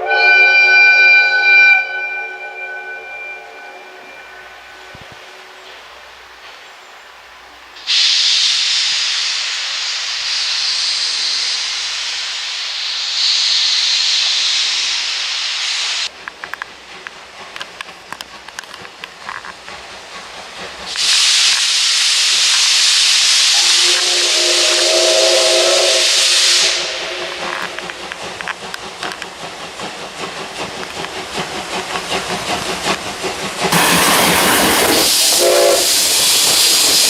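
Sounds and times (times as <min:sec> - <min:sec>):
locomotive steam hiss: 0:04.0 - 0:37.0.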